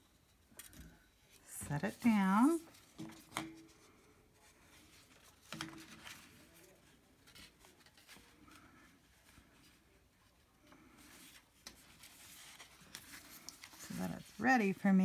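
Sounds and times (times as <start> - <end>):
faint handling sounds: 0.0 - 15.0.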